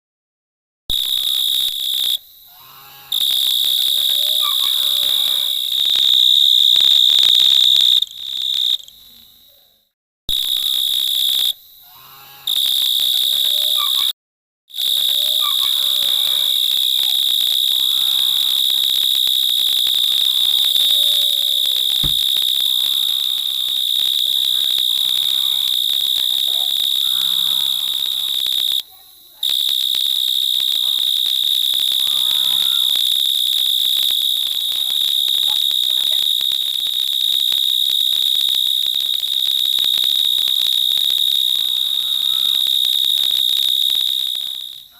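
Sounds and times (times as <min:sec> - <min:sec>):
shrill insect song: 0:00.9 - 0:14.1, 0:14.7 - 0:44.9.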